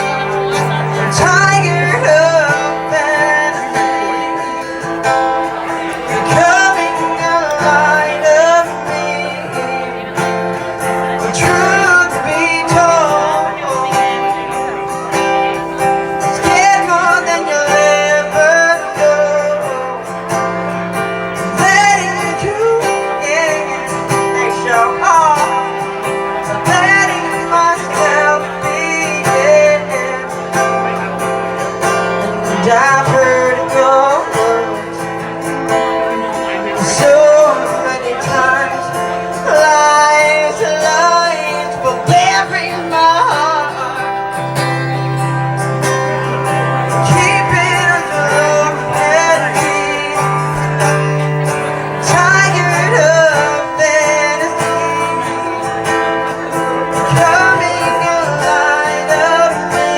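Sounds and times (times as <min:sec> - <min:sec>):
guitar chords: 0:00.0 - 0:59.9
person singing: 0:00.0 - 0:59.9.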